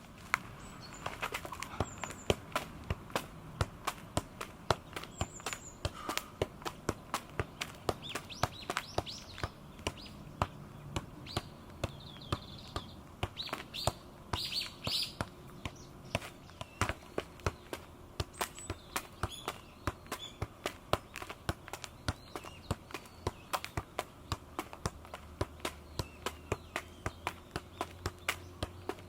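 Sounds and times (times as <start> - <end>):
birds chirping: 0.3 - 29.0.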